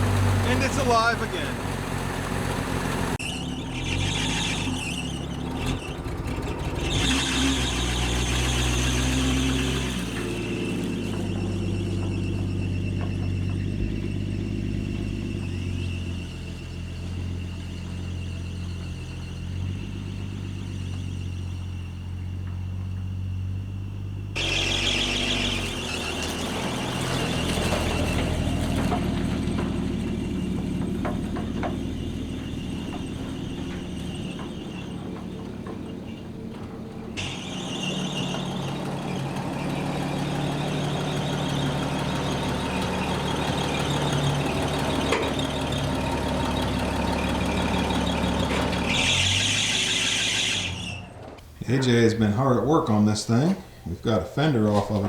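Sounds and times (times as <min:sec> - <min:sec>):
high-pitched squeal: 0:00.0 - 0:01.8, 0:03.0 - 0:22.6, 0:24.4 - 0:54.0
truck engine running: 0:00.0 - 0:55.0.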